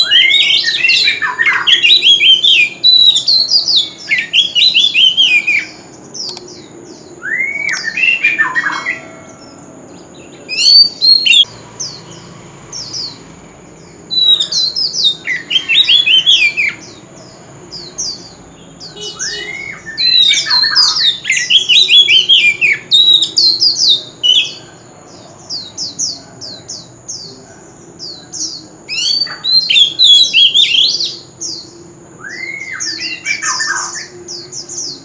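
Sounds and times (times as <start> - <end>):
bird singing whistled notes: 0.0 - 35.0.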